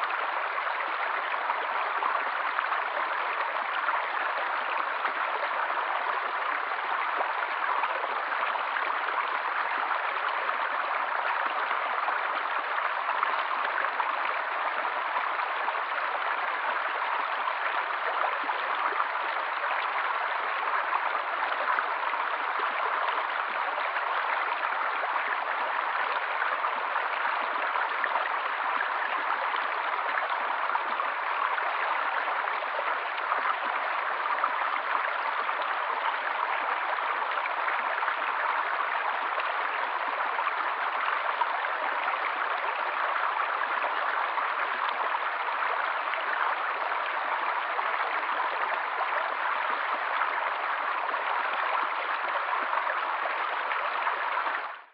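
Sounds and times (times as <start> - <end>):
stream flowing over stones: 0.0 - 54.9.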